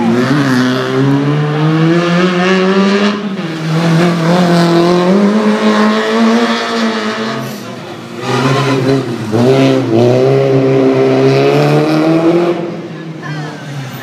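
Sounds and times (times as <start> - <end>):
race car engine revving: 0.0 - 13.9.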